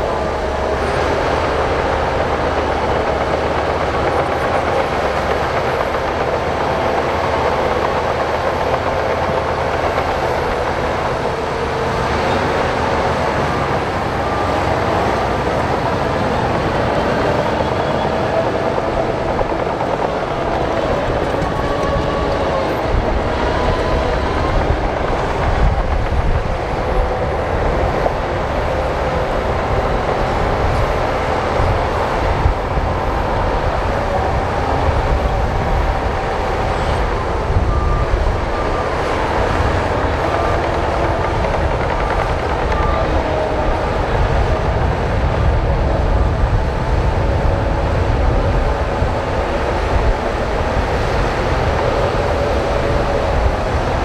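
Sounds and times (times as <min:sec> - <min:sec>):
bulldozer diesel engine: 0:00.0 - 0:54.0
steel tracks clattering: 0:00.0 - 0:54.0.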